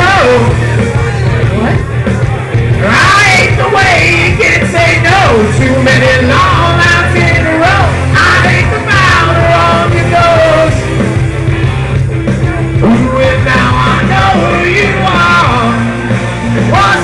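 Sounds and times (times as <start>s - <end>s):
man singing karaoke: 0.0s - 11.1s, 12.3s - 17.0s
rock backing track: 0.0s - 17.0s.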